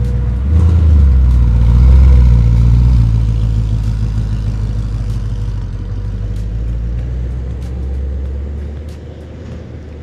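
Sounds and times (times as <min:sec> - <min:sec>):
car exhaust at low revs: 0:00.0 - 0:10.0.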